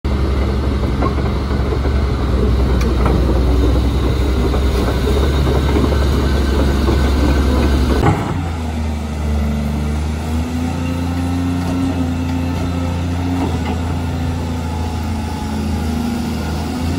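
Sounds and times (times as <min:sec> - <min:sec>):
excavator diesel engine drone: 0:00.1 - 0:16.9
second excavator engine hum: 0:00.1 - 0:16.9.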